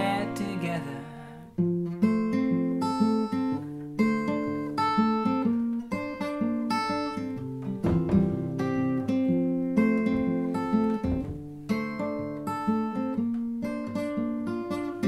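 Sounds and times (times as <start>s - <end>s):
plucked string notes: 0.0s - 15.0s.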